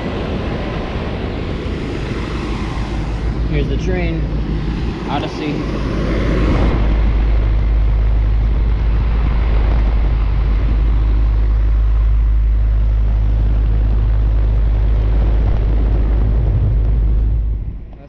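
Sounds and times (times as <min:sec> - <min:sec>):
air conditioner humming: 0:00.0 - 0:18.0
fan air rushing: 0:00.0 - 0:18.0.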